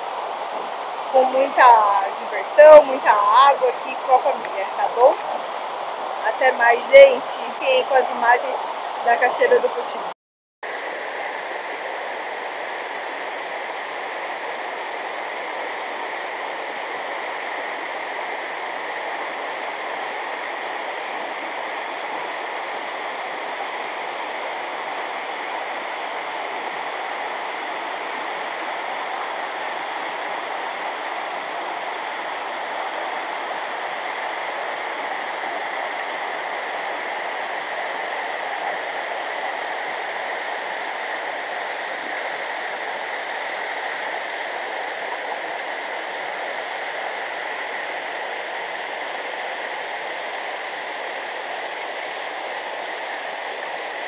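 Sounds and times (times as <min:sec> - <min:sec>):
waterfall rushing: 0:00.0 - 0:10.1, 0:10.7 - 0:54.0.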